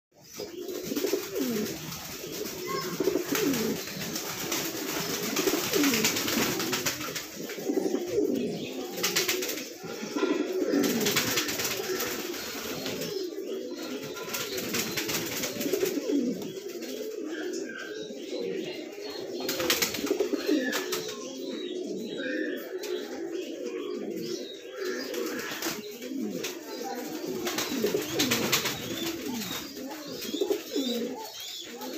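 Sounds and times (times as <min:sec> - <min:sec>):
pigeons cooing: 0:00.2 - 0:31.9.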